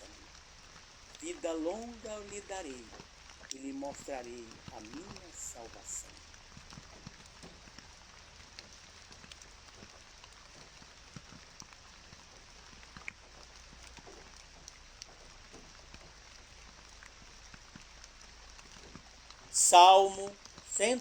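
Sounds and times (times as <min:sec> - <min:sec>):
soft steady rain: 0:00.0 - 0:21.0.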